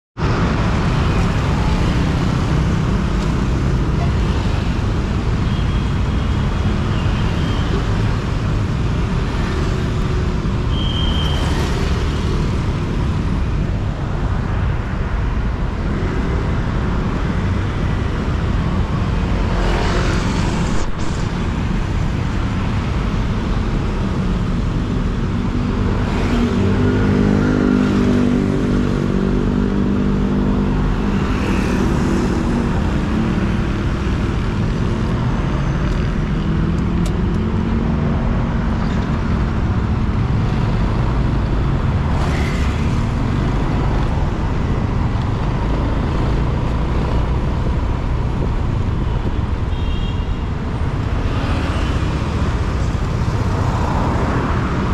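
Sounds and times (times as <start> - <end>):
road traffic rumble: 0.2 - 54.9.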